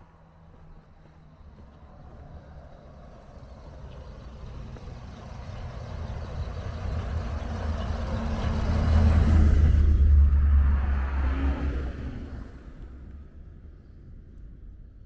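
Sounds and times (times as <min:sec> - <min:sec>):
bus passing by: 0:00.0 - 0:13.5.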